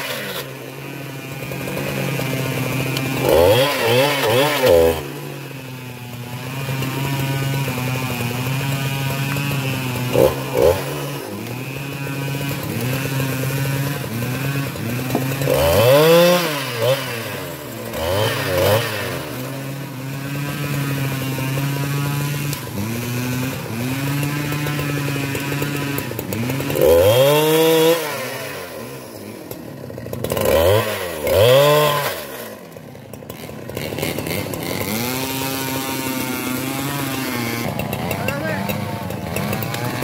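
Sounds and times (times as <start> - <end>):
chainsaw running and revving: 0.0 - 40.0.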